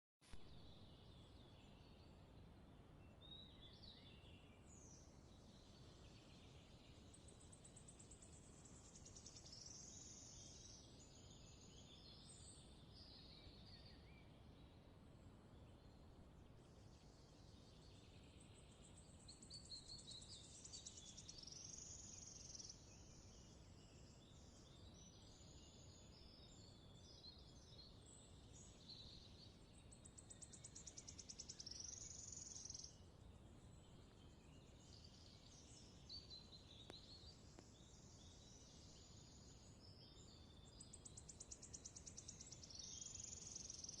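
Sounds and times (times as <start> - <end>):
songbird trilling song: 0.3 - 44.0.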